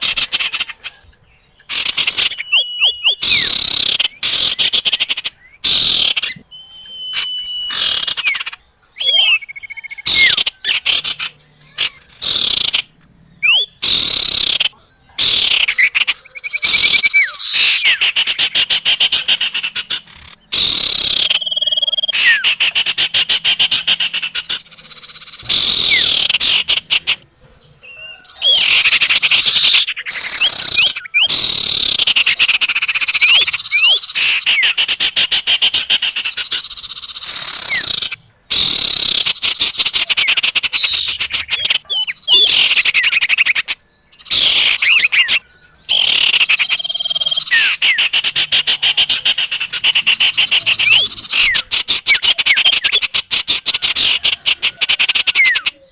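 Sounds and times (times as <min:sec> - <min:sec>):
songbird chattering trills: 0:00.0 - 0:55.9
bird whistles: 0:01.5 - 0:27.2, 0:27.8 - 0:55.9.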